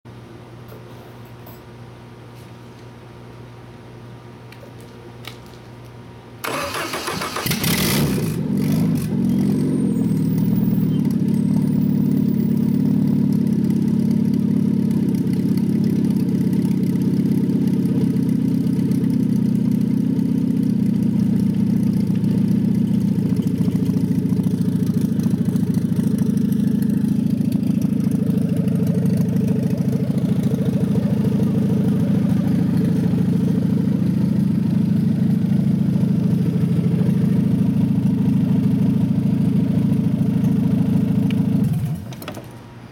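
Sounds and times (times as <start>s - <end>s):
engine cranking and idling: 6.4s - 42.6s.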